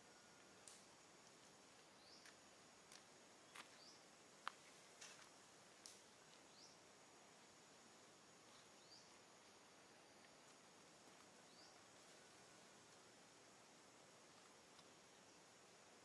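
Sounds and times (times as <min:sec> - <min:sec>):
faint outdoor background hiss: 0:00.0 - 0:16.0.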